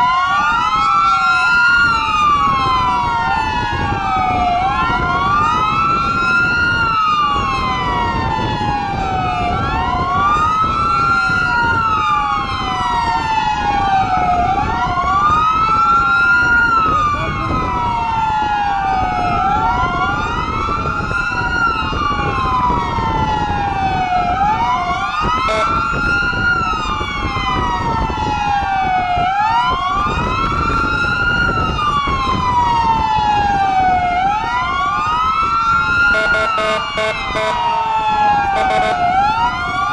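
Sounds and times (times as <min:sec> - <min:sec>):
engine and road noise: 0:00.0 - 0:39.9
police sirens wailing: 0:00.0 - 0:39.9.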